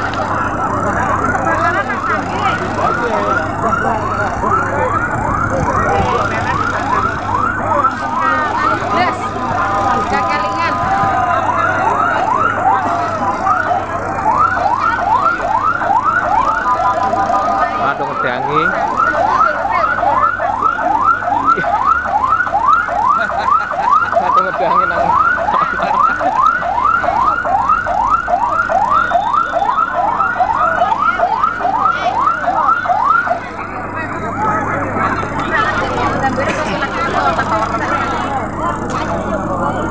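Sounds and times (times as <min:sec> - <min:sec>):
fire engine siren yelping: 0:00.0 - 0:39.9.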